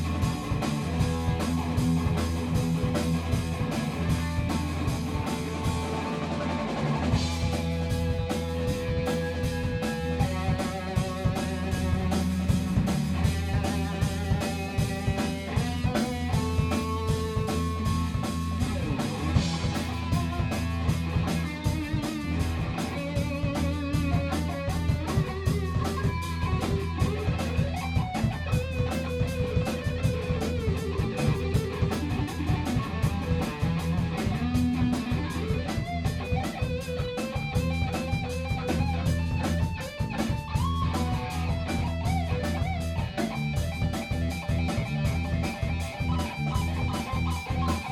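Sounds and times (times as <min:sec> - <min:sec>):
bass guitar: 0:00.0 - 0:47.9
drum kit beat: 0:00.0 - 0:47.9
electric guitar lead: 0:00.0 - 0:47.9.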